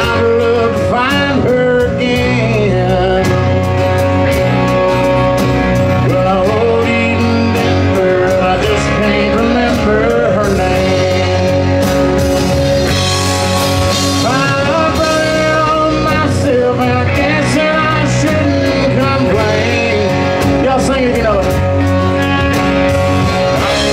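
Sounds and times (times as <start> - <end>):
acoustic guitar: 0.0 - 23.9
bass guitar: 0.0 - 23.9
drum kit beat: 0.0 - 23.9
electric guitar: 0.0 - 23.9.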